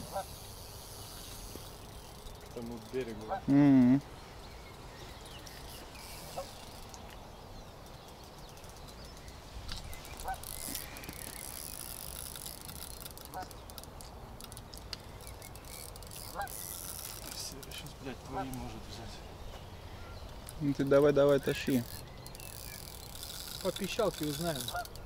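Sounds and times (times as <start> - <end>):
distant bird calls: 0.0 - 25.0.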